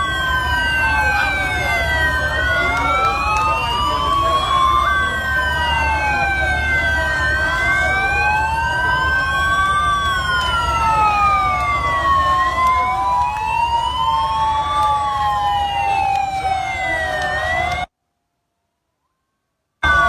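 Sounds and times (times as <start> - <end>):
sirens wailing: 0.0 - 17.9.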